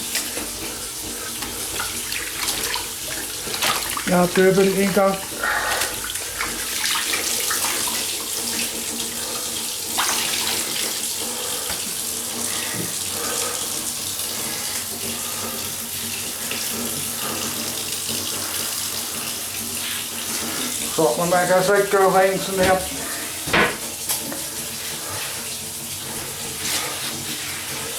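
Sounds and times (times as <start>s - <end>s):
water running from kitchen tap: 0.0s - 27.9s.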